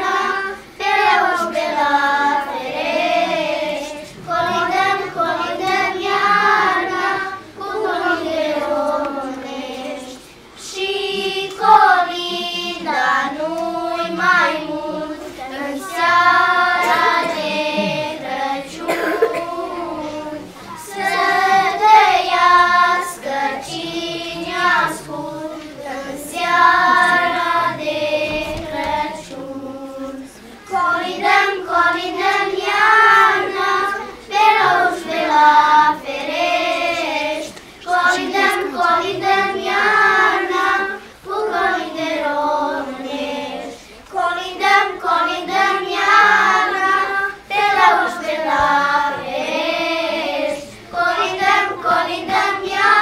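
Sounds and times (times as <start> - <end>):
children singing together: 0.0 - 53.0.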